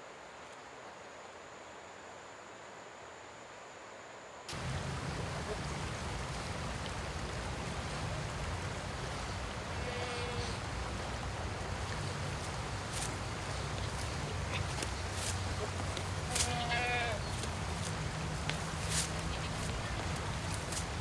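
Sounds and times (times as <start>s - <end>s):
rushing outdoor ambience: 0.0s - 21.0s.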